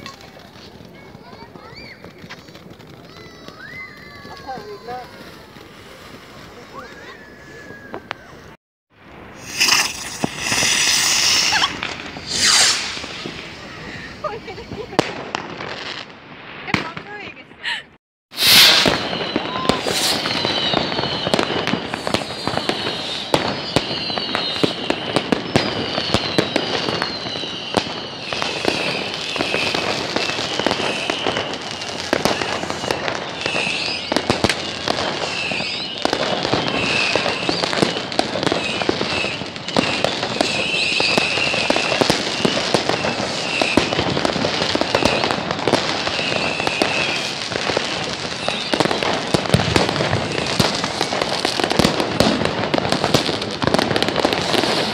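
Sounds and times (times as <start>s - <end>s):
firework whistles: 0.0s - 16.1s, 17.6s - 54.9s
fireworks bangs and crackling: 0.0s - 54.9s.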